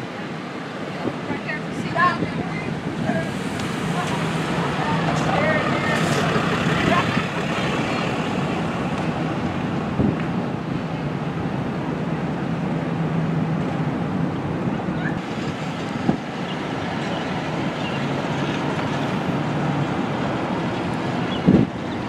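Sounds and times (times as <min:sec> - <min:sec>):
car engine hum and road noise: 0:01.2 - 0:22.0.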